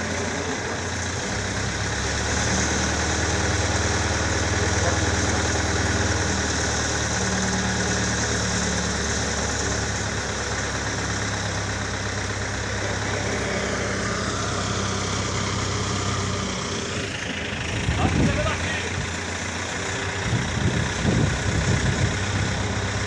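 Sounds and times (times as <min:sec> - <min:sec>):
diesel engine running at low revs: 0:00.0 - 0:23.0.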